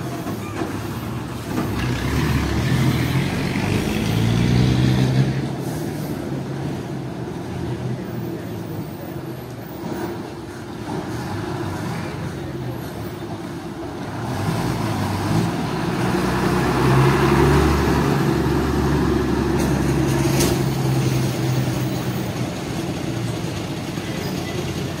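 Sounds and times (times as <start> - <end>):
bus diesel engine driving past: 0.0 - 25.0.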